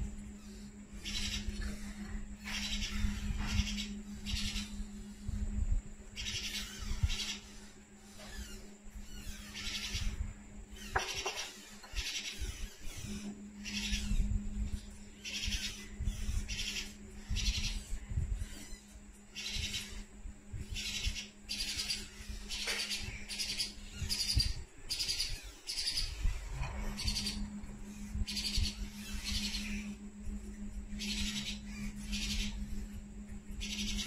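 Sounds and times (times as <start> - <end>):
parakeet chick cheeping: 0.4 - 4.9, 6.2 - 34.0.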